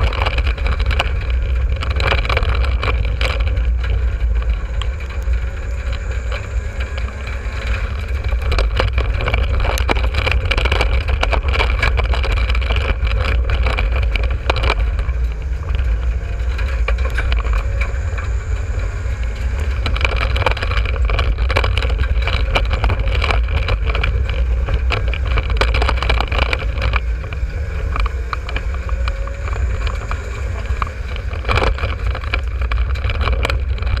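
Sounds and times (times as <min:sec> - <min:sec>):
heavy low rumble: 0:00.0 - 0:34.0
knocks and rattles: 0:00.0 - 0:34.0
race car engine and drivetrain: 0:00.0 - 0:34.0.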